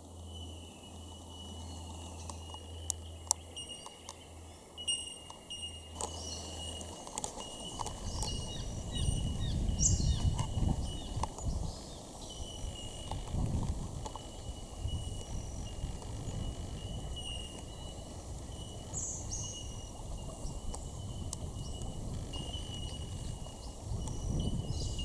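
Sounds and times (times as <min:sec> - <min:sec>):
high insect-like drone: 0:00.1 - 0:25.0
birds chirping: 0:00.2 - 0:13.3, 0:14.2 - 0:25.0.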